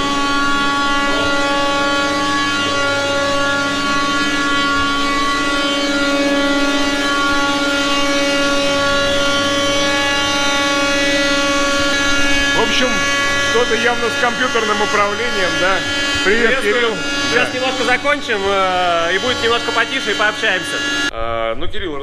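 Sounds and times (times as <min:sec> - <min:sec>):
workshop machine whining: 0:00.0 - 0:21.1.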